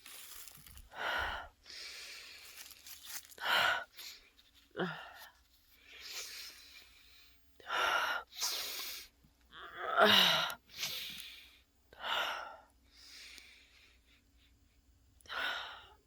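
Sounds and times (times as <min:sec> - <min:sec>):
person gasping breaths: 0:00.7 - 0:09.2, 0:10.0 - 0:14.3, 0:15.3 - 0:16.0.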